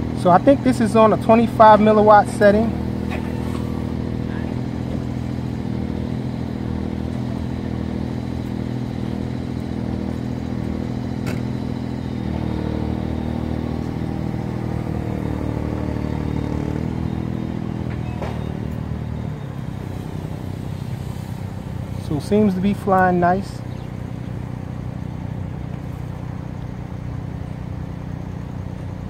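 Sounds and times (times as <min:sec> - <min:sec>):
quadcopter motors buzzing: 0:00.0 - 0:29.0.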